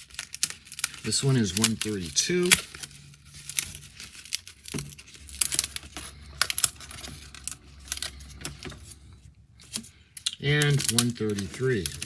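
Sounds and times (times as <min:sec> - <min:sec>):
puzzle pieces clicking and snapping: 0:00.0 - 0:08.8, 0:09.6 - 0:12.0.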